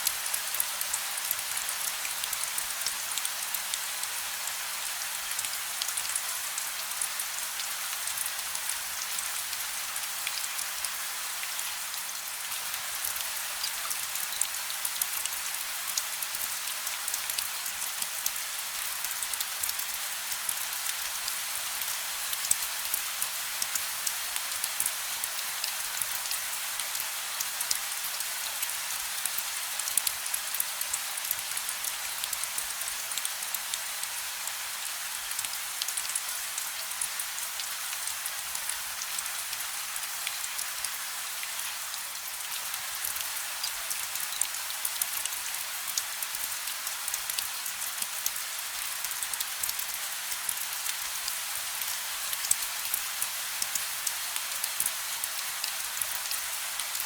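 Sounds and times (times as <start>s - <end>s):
gentle rain hiss: 0.0s - 57.0s
raindrops ticking on surface: 0.0s - 57.0s.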